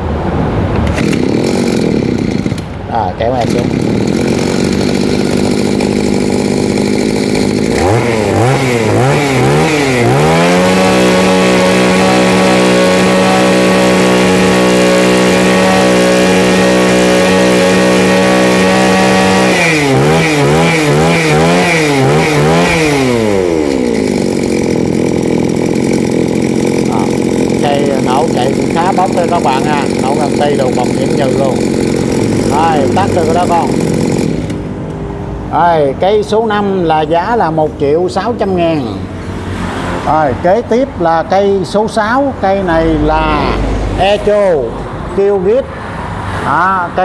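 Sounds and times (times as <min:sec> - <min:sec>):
brush cutter engine revving: 0:00.8 - 0:35.1, 0:36.3 - 0:45.7.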